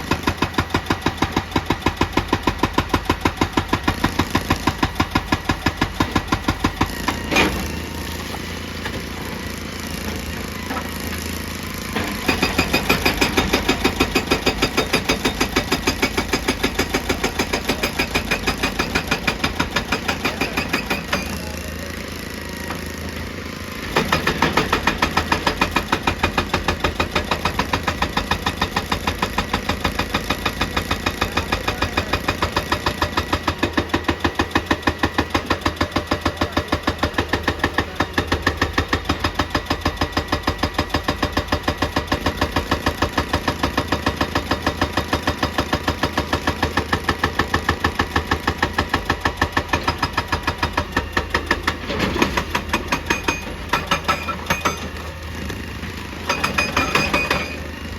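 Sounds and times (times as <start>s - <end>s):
excavator engine drone: 0.0s - 57.9s
hydraulic breaker hammering rock: 0.0s - 57.9s.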